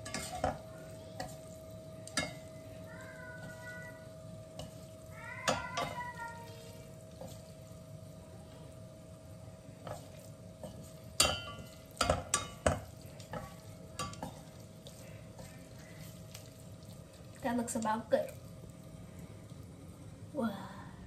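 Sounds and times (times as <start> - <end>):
faint sizzle of hot pan: 0.0 - 21.0
faint steady hum: 0.0 - 21.0.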